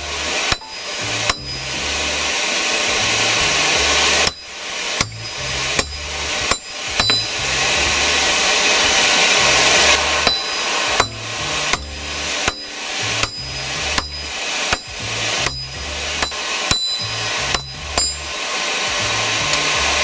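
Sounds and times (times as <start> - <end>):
hammer striking steel on anvil: 0.0 - 19.8
steady rushing noise: 0.0 - 20.0.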